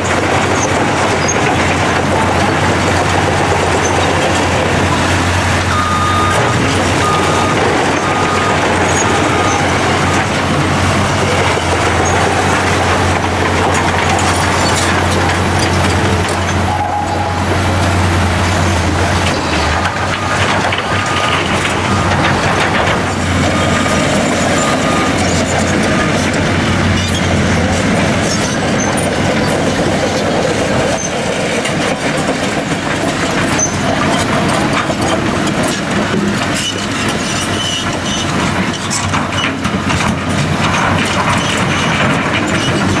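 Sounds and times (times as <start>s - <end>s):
diesel engine droning: 0.0s - 43.0s
steel tracks and bucket clanking: 0.0s - 43.0s.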